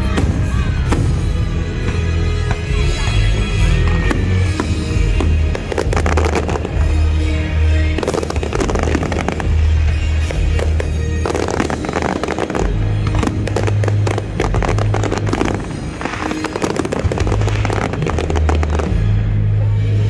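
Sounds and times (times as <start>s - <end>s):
fireworks crackling bursts: 0.0s - 20.0s.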